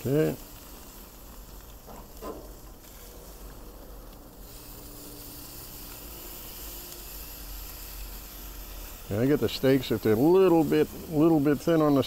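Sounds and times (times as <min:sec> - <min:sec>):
steaks sizzling on a grill: 0:00.0 - 0:12.0.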